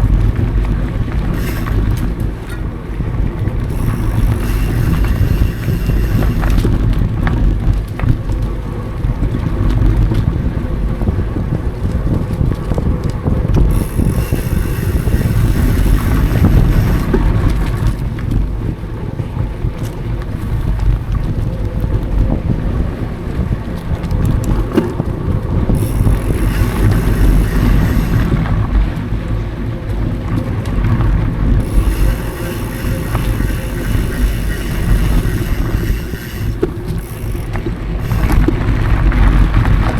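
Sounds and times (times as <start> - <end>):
bike clicks and rattles: 0.0 - 22.8, 23.5 - 39.9
low rumble of bike tyres: 0.0 - 39.9
wind buffeting microphone: 0.0 - 39.9.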